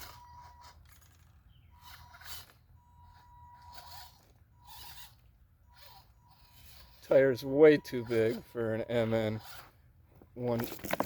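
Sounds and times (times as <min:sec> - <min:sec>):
small electric motor whining: 0:00.0 - 0:09.8.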